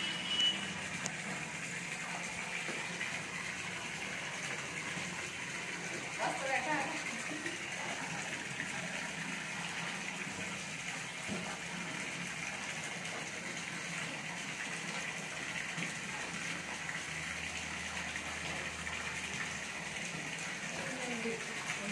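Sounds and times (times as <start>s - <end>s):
water running: 0.0s - 21.9s.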